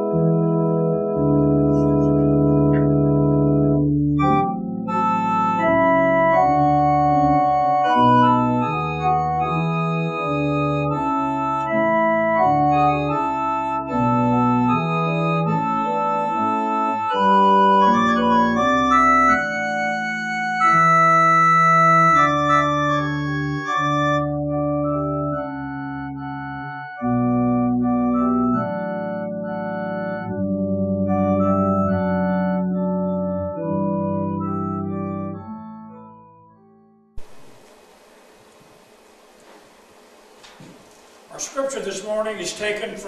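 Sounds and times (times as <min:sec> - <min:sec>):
organ music: 0:00.0 - 0:43.0.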